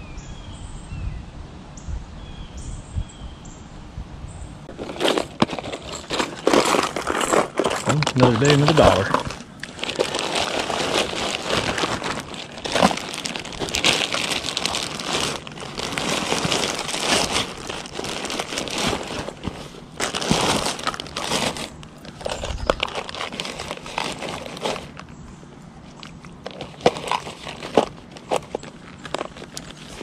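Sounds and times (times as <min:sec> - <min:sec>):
plastic bags crinkling: 0:04.7 - 0:25.2, 0:25.8 - 0:30.0.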